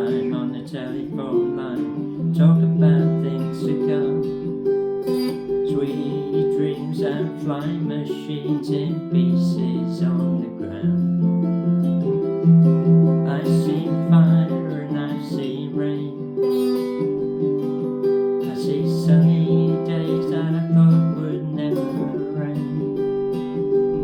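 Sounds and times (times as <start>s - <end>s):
baritone ukulele chords: 0.0s - 24.0s.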